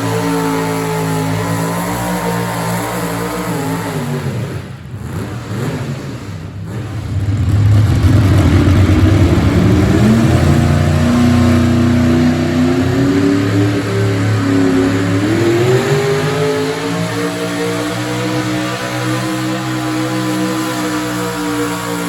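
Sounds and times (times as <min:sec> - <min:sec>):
truck engine revving under load: 0:00.0 - 0:22.0.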